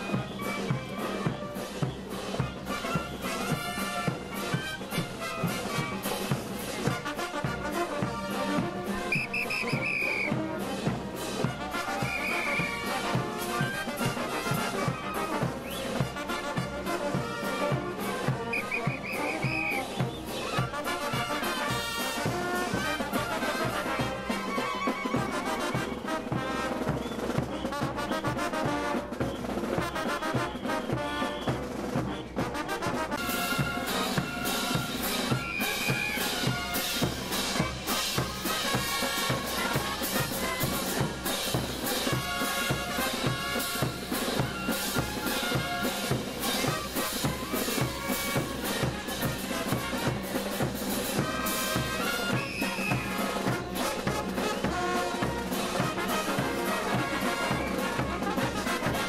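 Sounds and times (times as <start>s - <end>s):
drums and cymbals beat: 0.0s - 59.0s
trumpets and trombones: 0.0s - 59.0s.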